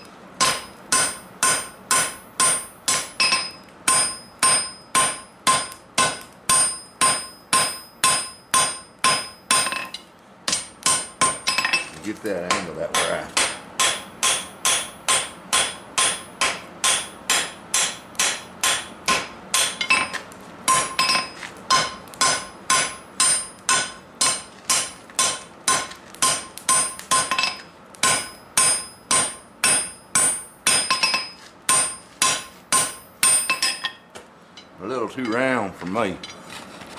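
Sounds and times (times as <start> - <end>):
hammer striking metal on anvil: 0.0 - 34.0.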